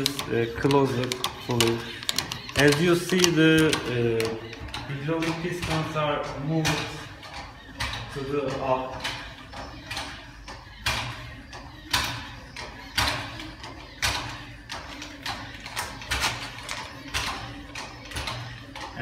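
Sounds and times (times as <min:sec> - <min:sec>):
hand hydraulic pump clacking: 0:00.0 - 0:19.0.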